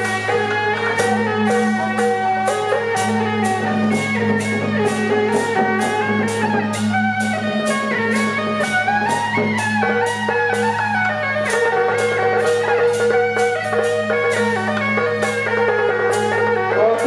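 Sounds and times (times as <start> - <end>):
regular drum beat: 0.0 - 17.0.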